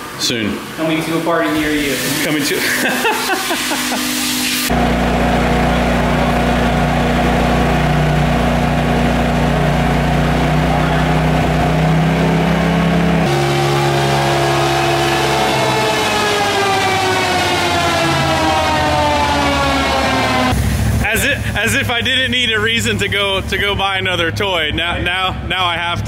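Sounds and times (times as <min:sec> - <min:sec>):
engine running: 0:03.9 - 0:26.0.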